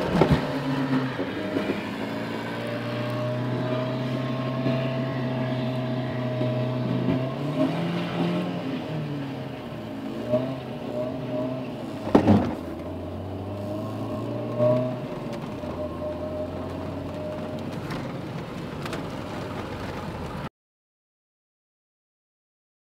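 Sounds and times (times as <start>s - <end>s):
car engine from inside cabin: 0.0s - 20.5s.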